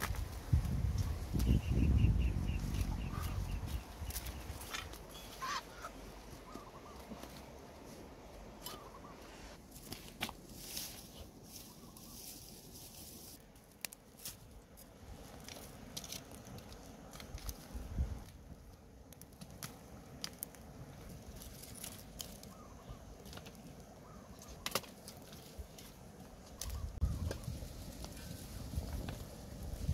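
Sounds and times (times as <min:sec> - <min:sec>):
straw and twigs crackling in fire: 0:00.0 - 0:09.0, 0:09.6 - 0:29.9.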